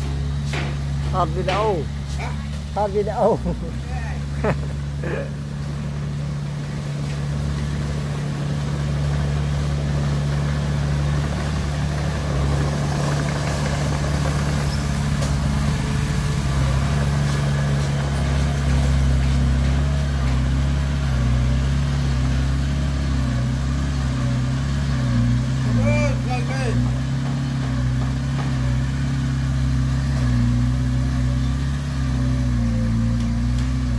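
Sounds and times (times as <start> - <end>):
heavy diesel engine idling: 0.0 - 33.9.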